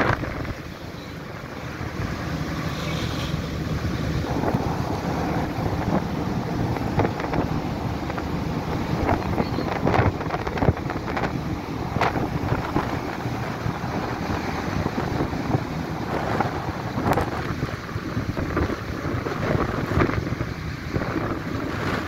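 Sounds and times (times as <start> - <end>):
wind buffeting microphone: 0.0 - 2.7, 3.5 - 22.0
steady low drone: 3.4 - 21.9.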